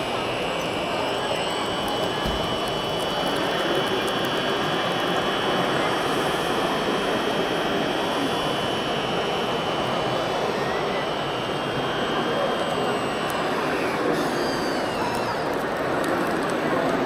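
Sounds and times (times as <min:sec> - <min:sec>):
small electric motors whirring: 0:00.0 - 0:16.6.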